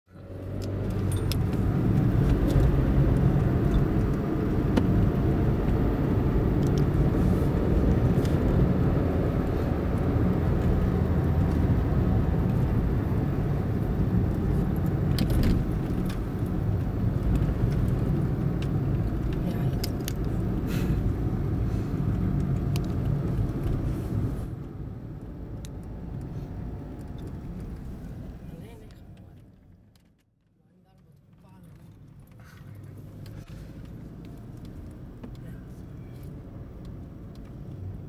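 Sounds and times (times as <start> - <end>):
vehicle driving on road: 0.1 - 38.0.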